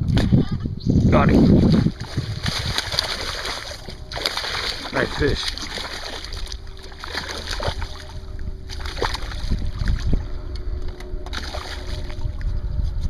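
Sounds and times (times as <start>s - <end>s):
low boat rumble: 0.0s - 13.0s
faint steady hum: 0.6s - 13.0s
water splashes: 1.2s - 12.5s.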